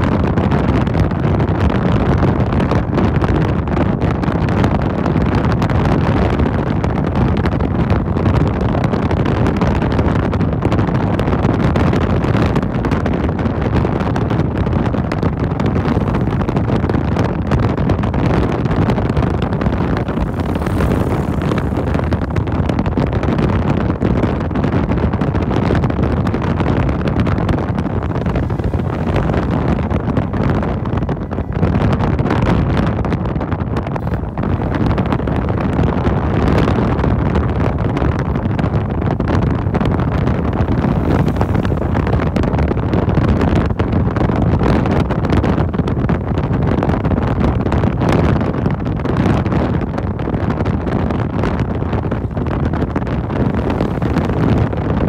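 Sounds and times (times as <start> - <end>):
motorcycle engine rumble: 0.0 - 55.0
wind rushing on microphone: 0.0 - 55.0.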